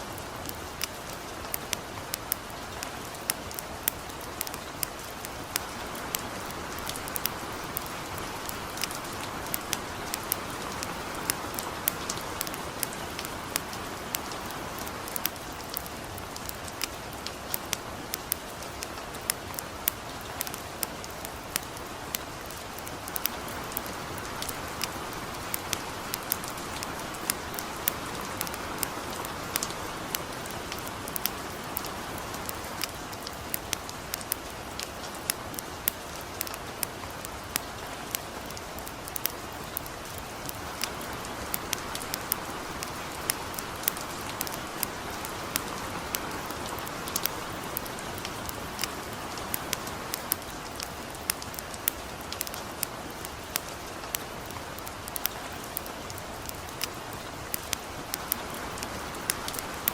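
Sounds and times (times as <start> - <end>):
light rain falling: 0.0 - 59.9
wood fire crackling and popping: 0.0 - 59.9.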